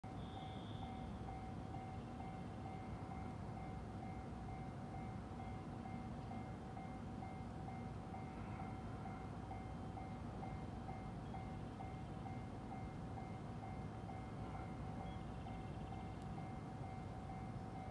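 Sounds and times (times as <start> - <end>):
distant electric train rumble: 0.1 - 17.9.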